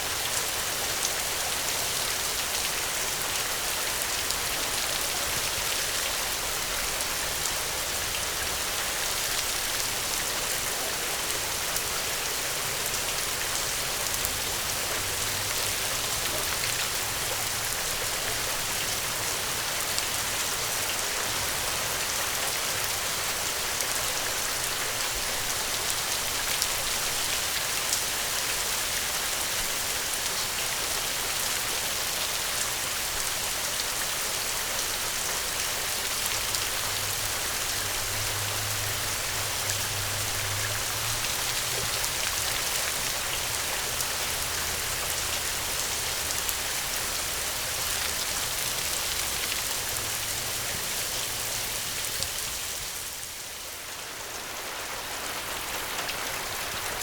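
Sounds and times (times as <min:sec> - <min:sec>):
raindrops ticking on a surface: 0:00.0 - 0:57.0
steady rain hiss: 0:00.0 - 0:57.0.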